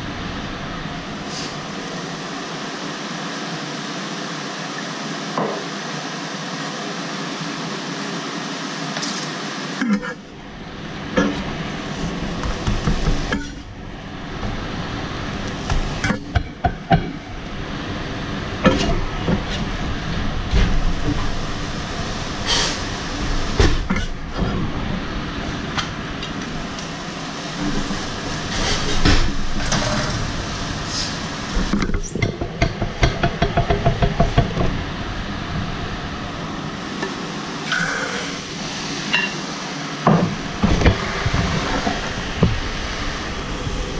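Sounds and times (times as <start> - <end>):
fan-like background noise: 0.0 - 43.9.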